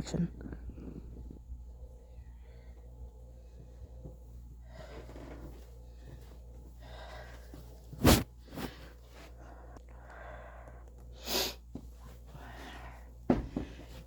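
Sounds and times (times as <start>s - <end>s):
low steady hum: 0.0s - 14.0s
soft breaths close to microphone: 0.4s - 14.0s.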